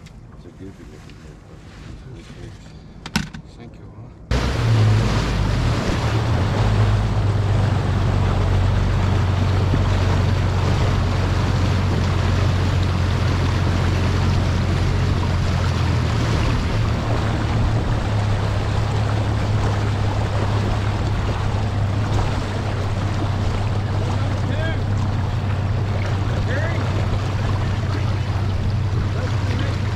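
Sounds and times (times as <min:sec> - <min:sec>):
water rushing along hull: 0:00.0 - 0:02.6, 0:04.3 - 0:29.9
wind: 0:00.0 - 0:29.9
outboard motor humming: 0:04.2 - 0:29.9.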